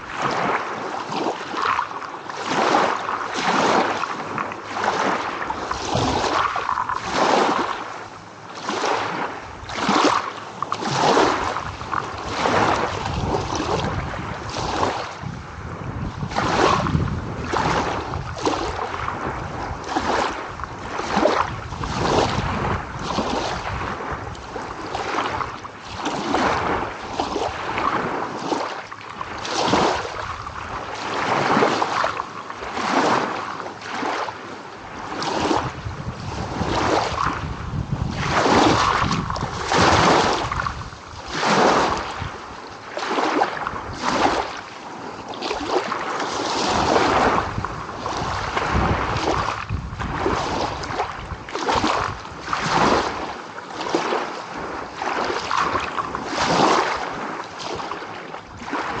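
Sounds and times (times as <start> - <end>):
small ocean waves breaking: 0.0 - 59.0.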